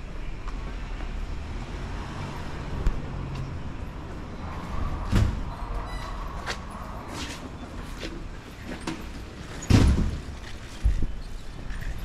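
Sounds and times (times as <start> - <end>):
cars rumbling: 0.0 - 12.0.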